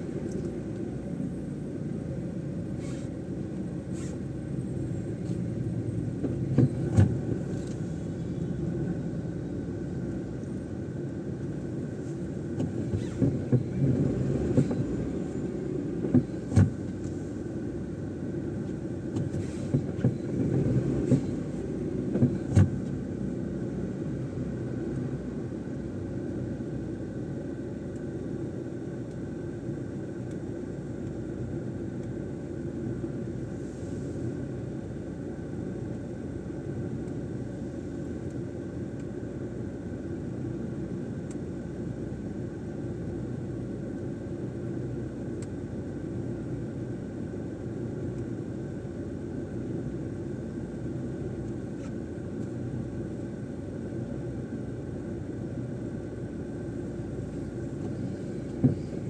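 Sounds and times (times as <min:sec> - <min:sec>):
car engine rumble: 0:00.0 - 0:59.0
tyres on road: 0:00.0 - 0:59.0.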